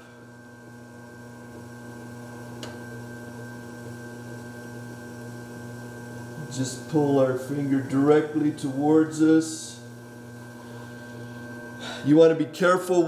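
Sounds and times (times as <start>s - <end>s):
pottery wheel motor humming: 0.0s - 13.0s.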